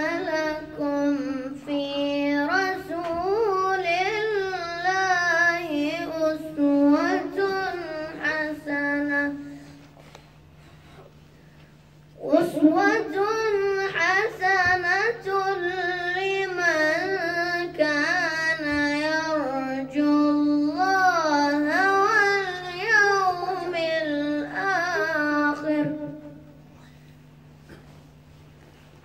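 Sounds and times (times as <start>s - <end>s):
boy chanting recitation: 0.0s - 10.0s, 12.2s - 26.6s
steady low hum: 0.0s - 29.0s.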